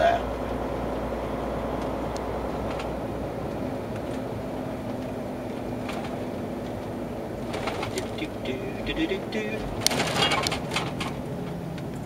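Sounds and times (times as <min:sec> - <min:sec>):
lorry engine and road noise: 0:00.0 - 0:12.0.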